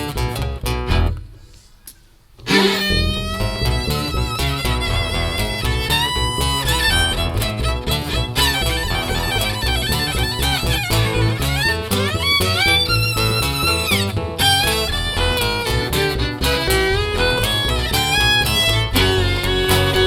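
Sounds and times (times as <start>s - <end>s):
strummed acoustic guitar: 2.4s - 20.0s
fiddle playing lead: 2.5s - 20.0s
steady bass line: 2.5s - 20.0s.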